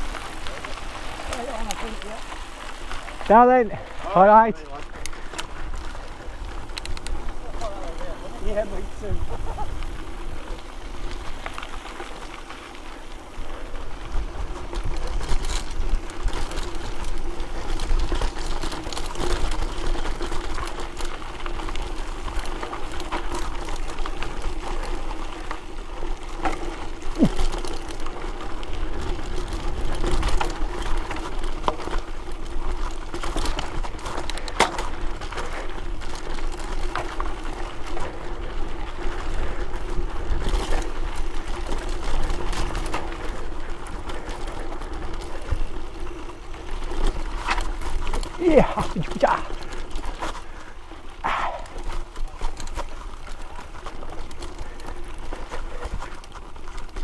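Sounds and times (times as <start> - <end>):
bike rattling over dirt: 0.0 - 57.0.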